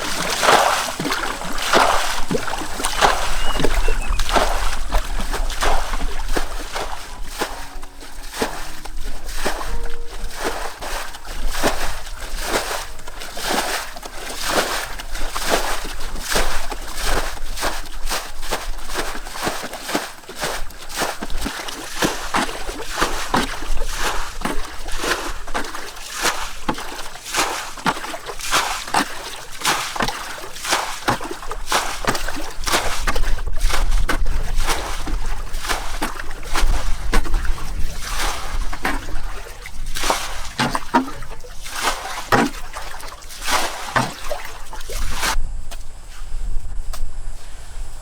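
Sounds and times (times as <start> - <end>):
water splashing in shallow pond: 0.0 - 45.4.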